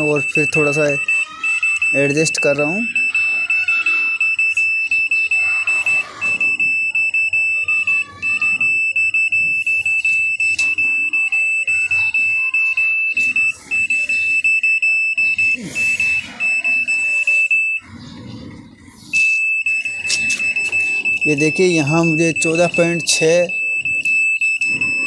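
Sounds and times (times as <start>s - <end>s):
meter beeping high-pitched tone: 0.0s - 17.9s, 19.1s - 25.0s.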